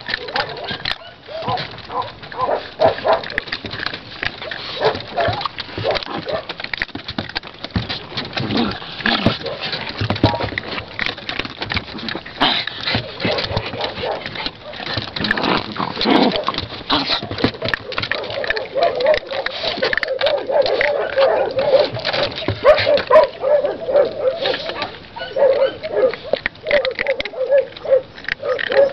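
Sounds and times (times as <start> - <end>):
puppies eating from metal bowl: 0.0 - 28.9.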